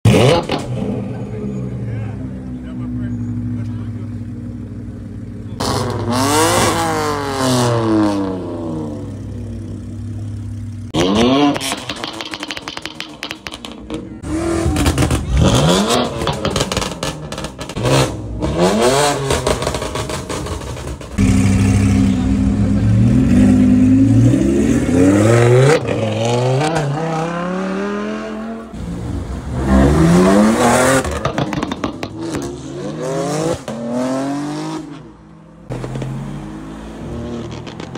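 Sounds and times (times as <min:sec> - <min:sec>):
car engines idling and revving: 0:00.0 - 0:37.9.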